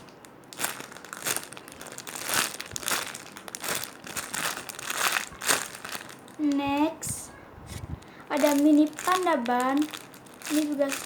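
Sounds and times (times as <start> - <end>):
plastic crinkling and rustling: 0.0 - 11.0.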